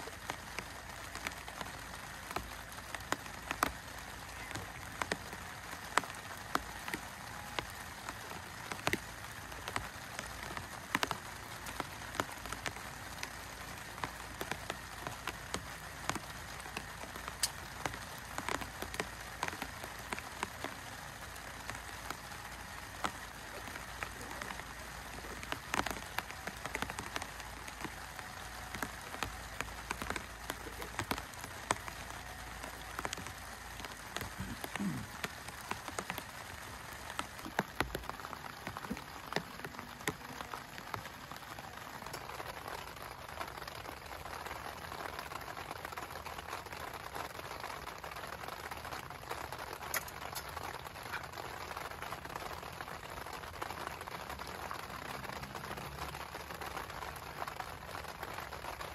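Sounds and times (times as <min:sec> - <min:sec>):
raindrops ticking on a surface: 0:00.0 - 0:58.9
steady rain falling: 0:00.0 - 0:58.9.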